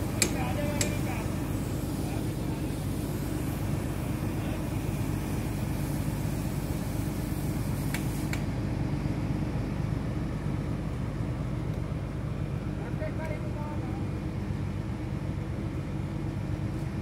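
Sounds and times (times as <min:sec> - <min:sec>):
drilling rig engine droning: 0:00.0 - 0:16.8.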